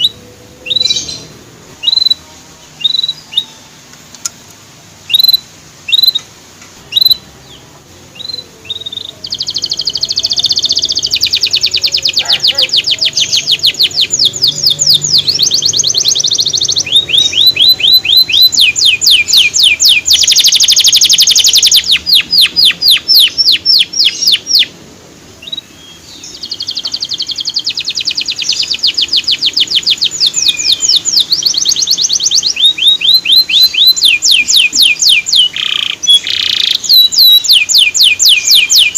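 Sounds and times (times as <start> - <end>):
canary singing trills: 0.0 - 3.9, 5.0 - 38.9.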